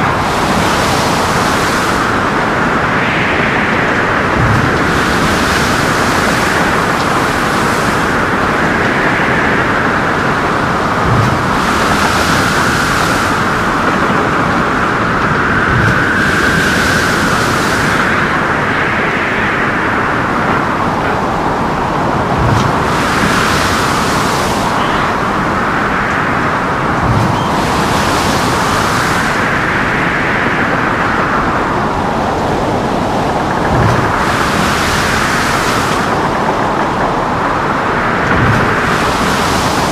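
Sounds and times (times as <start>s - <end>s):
water surging: 0.0s - 39.9s
wind and sea rushing: 0.0s - 39.9s.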